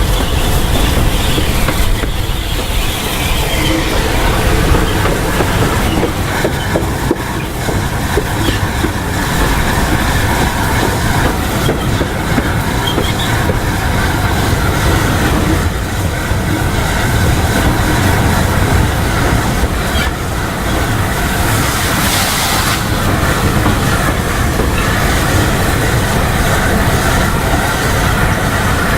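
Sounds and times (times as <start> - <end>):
hiss: 0.0 - 28.9
train rumbling on track: 0.0 - 28.9
wheels clacking over rail joints: 0.0 - 28.9.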